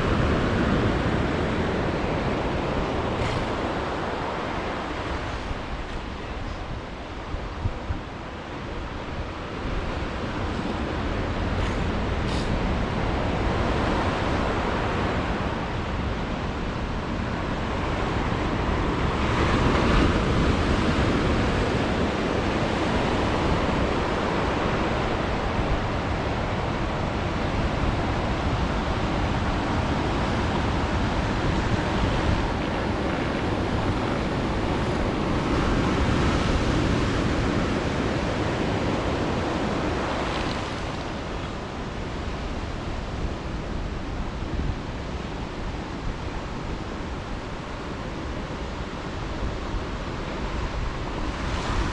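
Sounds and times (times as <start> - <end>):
ocean surf washing ashore: 0.0 - 51.9
wind on microphone: 0.0 - 51.9.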